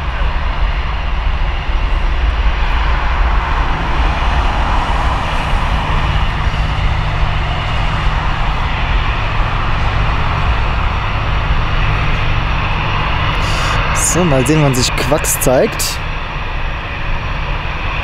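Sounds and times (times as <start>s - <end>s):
jet engines at high power: 0.0s - 18.0s.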